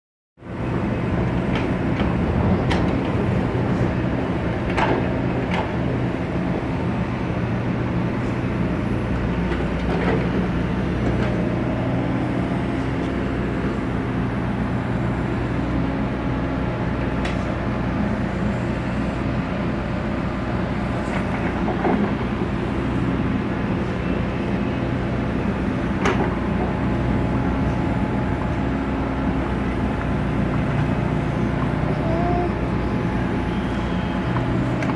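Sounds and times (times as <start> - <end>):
excavator diesel engine running: 0.4 - 34.9.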